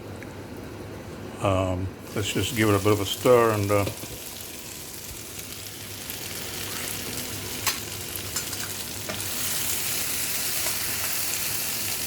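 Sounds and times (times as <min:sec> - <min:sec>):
vegetables sizzling in a wok: 0:02.0 - 0:12.0.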